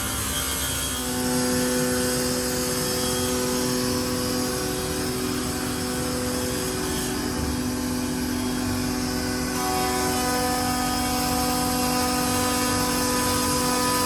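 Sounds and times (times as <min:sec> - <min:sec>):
cnc router whining: 0:00.0 - 0:14.0.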